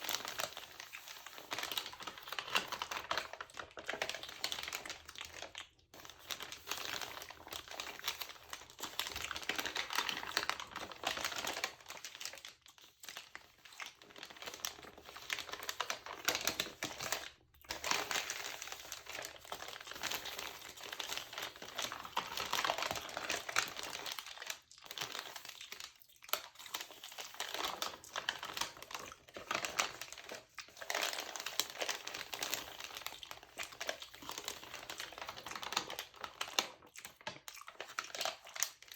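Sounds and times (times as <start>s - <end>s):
glossy paper crinkling: 0.0s - 38.9s.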